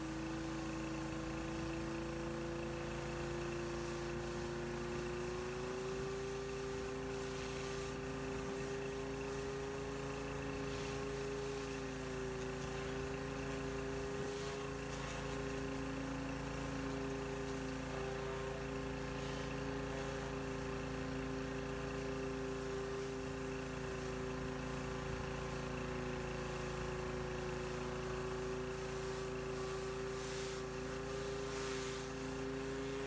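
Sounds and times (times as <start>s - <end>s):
pressure washer motor drone: 0.0s - 33.0s
water jets hissing on concrete: 0.0s - 33.0s.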